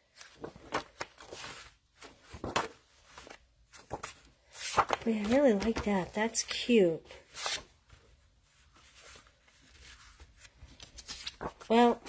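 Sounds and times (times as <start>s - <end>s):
paper rustling and swishing: 0.1s - 6.2s, 7.2s - 12.0s.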